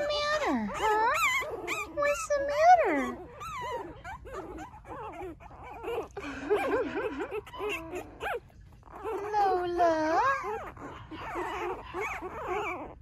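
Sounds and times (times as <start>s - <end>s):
puppy whimpering: 0.0s - 13.0s.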